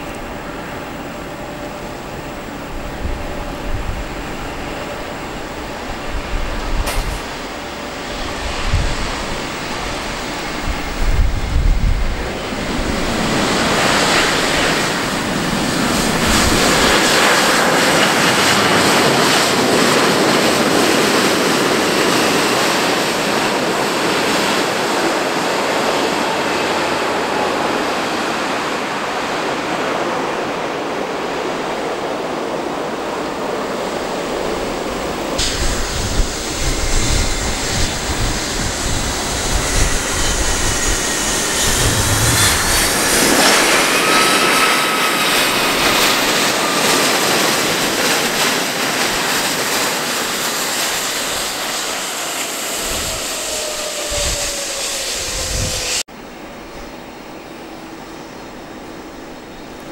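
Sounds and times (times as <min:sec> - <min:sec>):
jet engine whine: 0:00.0 - 0:59.9
jet engines rushing on landing: 0:00.0 - 0:59.9.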